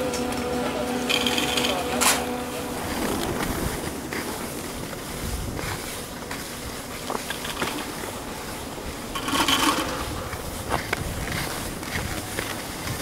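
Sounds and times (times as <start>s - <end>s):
skis sliding over packed snow: 0.0s - 13.0s.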